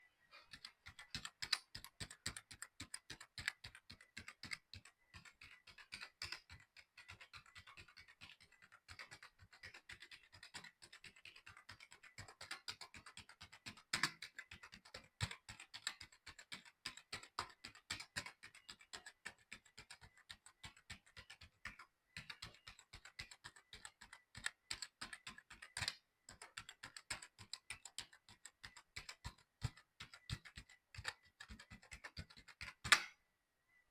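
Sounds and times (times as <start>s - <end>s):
keyboard keys clicking: 0.5s - 33.1s.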